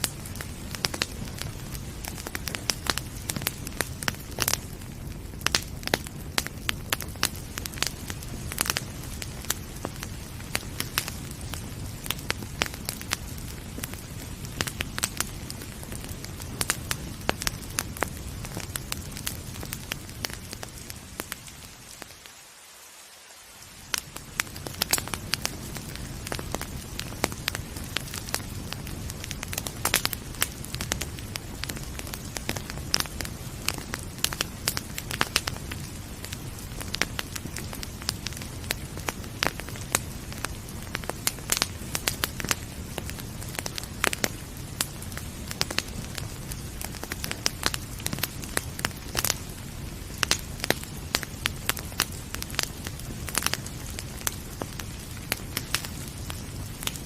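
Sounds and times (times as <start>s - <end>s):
wood fire crackling and popping: 0.0s - 22.4s, 23.7s - 57.0s
rain hissing: 0.0s - 57.0s.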